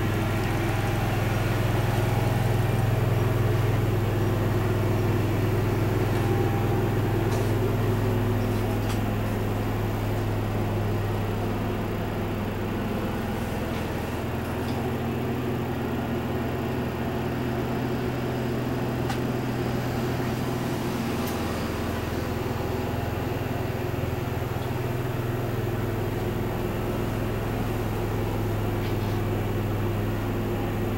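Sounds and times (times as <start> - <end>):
machinery humming: 0.0 - 30.9.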